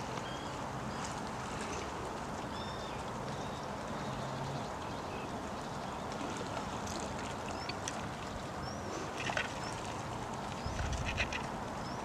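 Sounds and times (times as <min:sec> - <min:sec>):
rain falling on sea and shore: 0:00.0 - 0:12.0.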